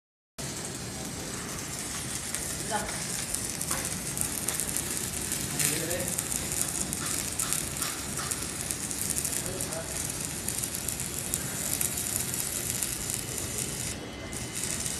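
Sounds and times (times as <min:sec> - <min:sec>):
welding arc crackling sizzle: 0:00.4 - 0:14.9.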